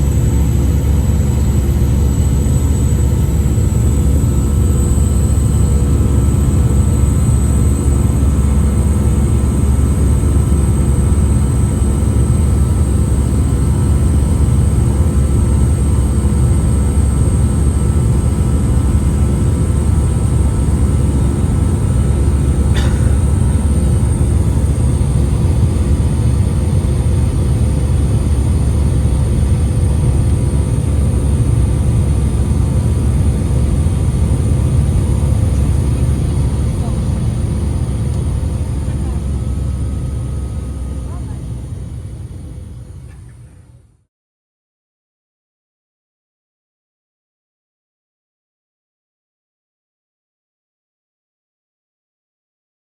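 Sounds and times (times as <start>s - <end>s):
low rumble of engines and airflow: 0.0s - 44.1s.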